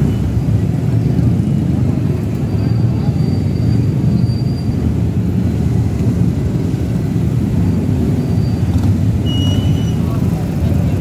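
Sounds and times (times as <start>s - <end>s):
motorcycle engines rumbling slowly: 0.0s - 11.0s.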